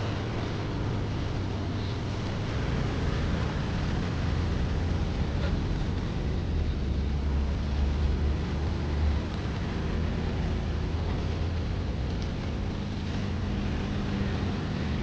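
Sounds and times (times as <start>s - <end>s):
low buffeting rumble: 0.0s - 15.0s.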